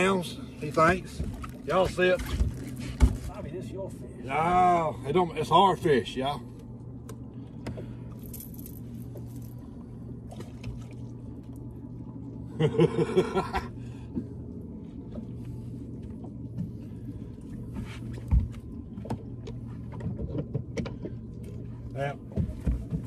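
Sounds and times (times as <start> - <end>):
water sloshing: 0.0 - 4.2, 6.4 - 23.0
steady low hum: 0.0 - 23.0.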